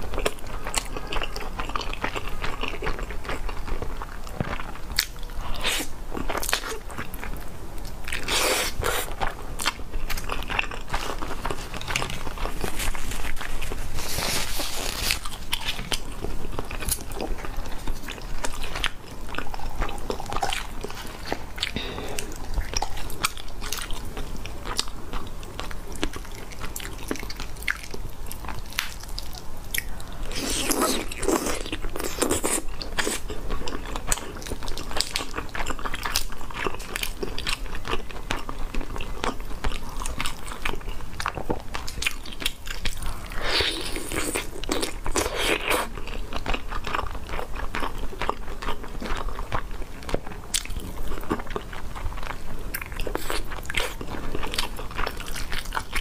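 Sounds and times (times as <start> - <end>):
chewing with wet crunches: 0.0 - 56.0.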